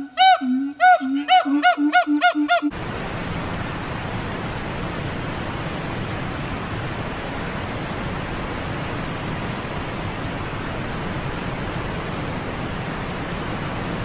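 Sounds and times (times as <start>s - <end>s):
steady rushing noise: 2.7s - 14.0s.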